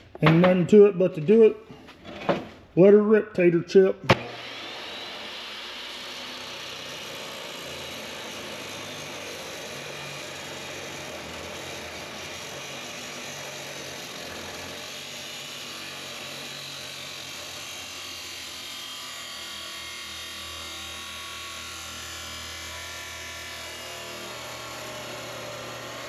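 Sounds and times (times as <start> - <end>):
chop saw grinding steel: 4.1 - 26.0.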